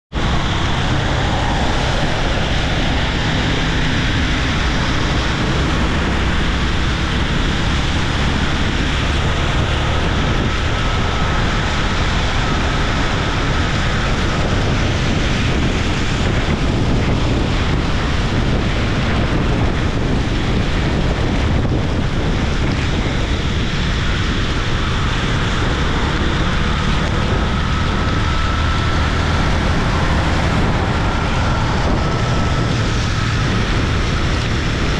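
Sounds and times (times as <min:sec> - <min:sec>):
motorcycle engine and road rumble: 0:00.1 - 0:34.9
wind buffeting microphone: 0:00.1 - 0:34.9.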